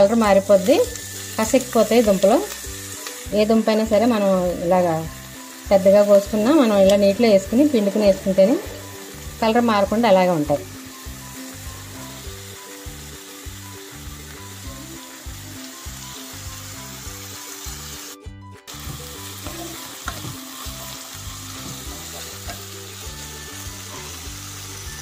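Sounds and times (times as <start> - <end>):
potato and onion sizzling in oil: 0.0 - 25.0.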